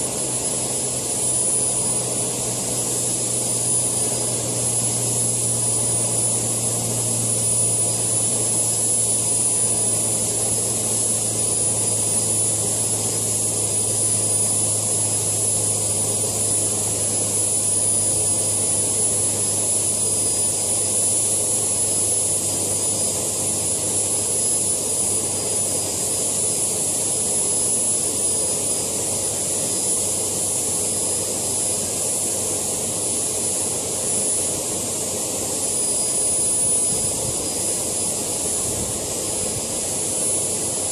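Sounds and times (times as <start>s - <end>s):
model turbine whine: 0.0s - 40.9s.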